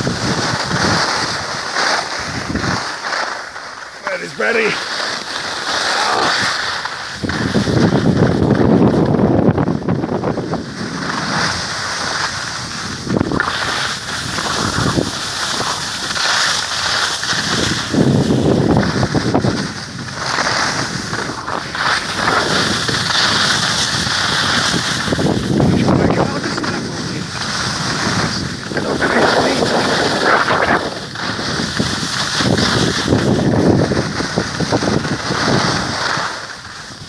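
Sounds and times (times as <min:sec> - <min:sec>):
wind on microphone: 0:00.0 - 0:02.9, 0:05.9 - 0:37.0
skis scraping over snow: 0:00.0 - 0:37.0.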